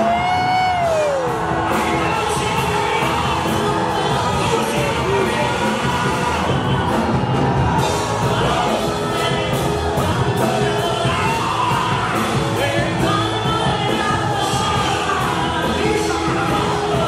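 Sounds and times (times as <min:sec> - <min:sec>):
drums and cymbals beat: 0:00.0 - 0:17.0
live band playing: 0:00.0 - 0:17.0
singers on microphones: 0:00.0 - 0:17.0.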